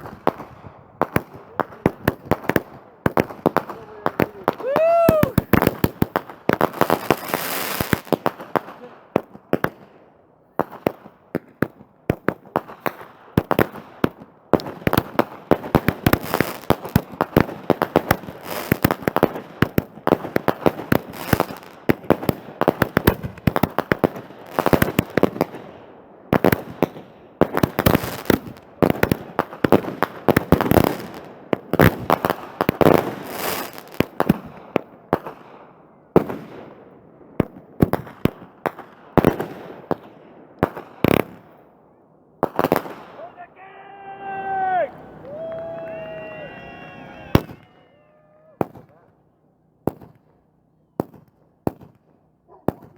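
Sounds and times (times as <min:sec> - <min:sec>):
fireworks bangs and crackling pops: 0:00.0 - 0:41.8, 0:42.4 - 0:47.7, 0:48.6 - 0:49.2, 0:49.8 - 0:52.9.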